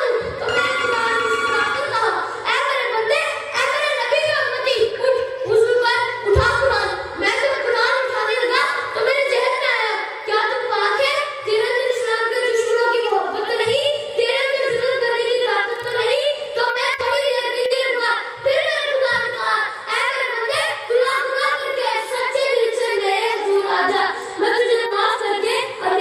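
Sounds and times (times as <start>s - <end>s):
girl singing high-pitched: 0.0s - 26.0s.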